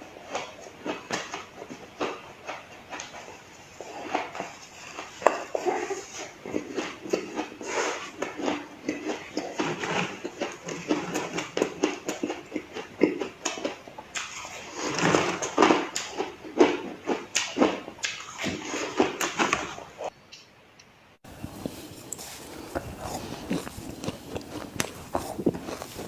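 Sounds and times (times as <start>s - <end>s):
chewing ice crunches: 0.2s - 19.7s, 21.5s - 26.0s.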